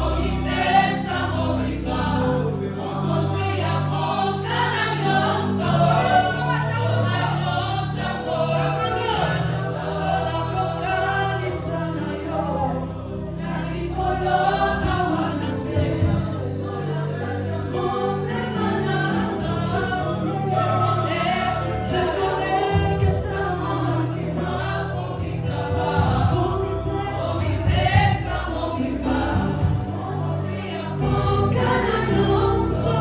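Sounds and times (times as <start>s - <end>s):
choir singing gospel: 0.0s - 33.0s.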